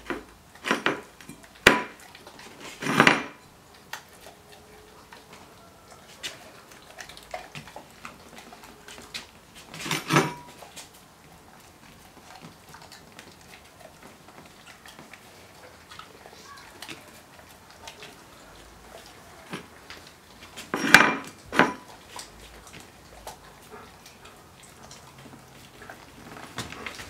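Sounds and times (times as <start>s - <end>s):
dog bowls clattering and clinking: 0.0s - 27.0s.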